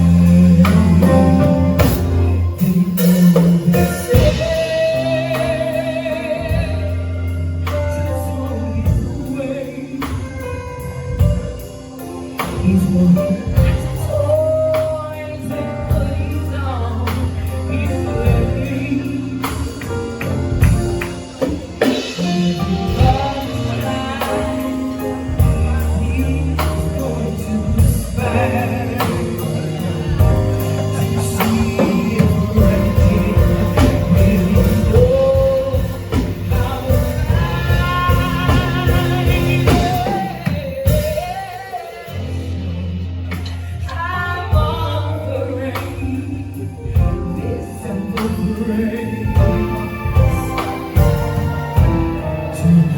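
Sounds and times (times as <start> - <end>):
gospel-style singing with vibrato: 0.0 - 52.9
live band music: 0.0 - 52.9.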